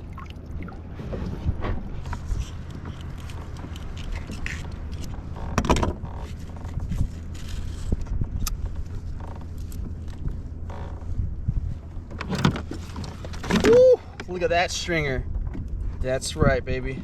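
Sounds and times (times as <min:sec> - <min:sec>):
gear knocking and scraping on kayak: 0:00.8 - 0:17.0.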